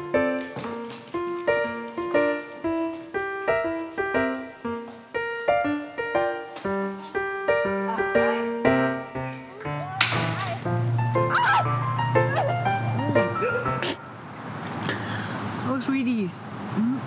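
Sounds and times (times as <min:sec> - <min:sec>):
piano music: 0:00.0 - 0:14.6.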